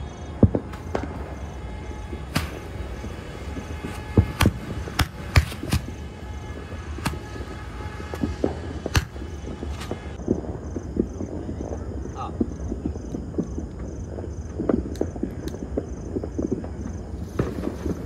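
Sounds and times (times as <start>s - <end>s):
firework fountain sparks hissing: 0.0s - 18.0s
firework pops and cracks: 0.0s - 18.0s.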